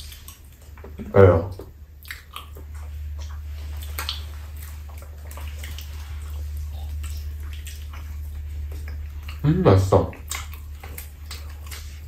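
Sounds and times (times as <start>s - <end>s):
steady low hum: 0.0s - 12.0s
wet chewing and lip-smacking: 0.0s - 12.0s.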